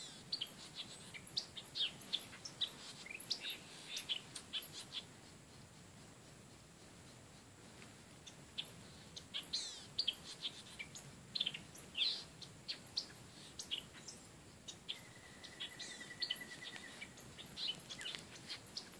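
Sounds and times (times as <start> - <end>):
bird trill: 0.0 - 5.1, 8.2 - 18.9
small birds chirping: 0.0 - 18.9.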